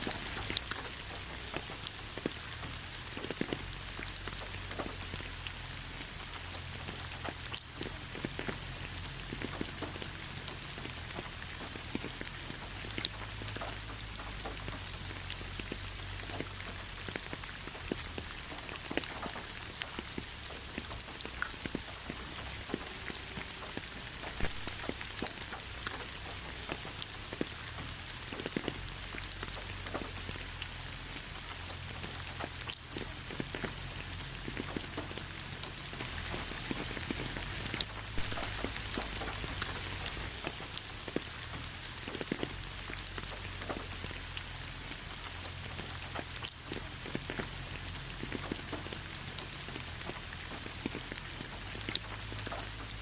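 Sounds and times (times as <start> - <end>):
rain drops ticking on a surface: 0.0 - 53.0
rain hiss: 0.0 - 53.0.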